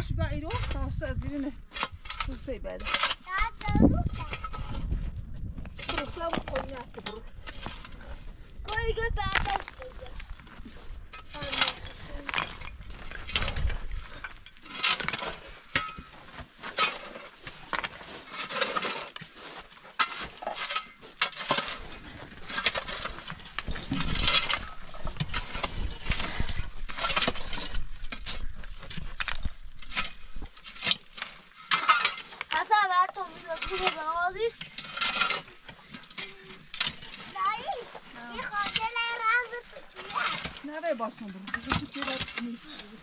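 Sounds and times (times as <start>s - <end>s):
shovels scraping stony dirt: 0.3s - 43.0s
small stones clattering: 5.6s - 43.0s.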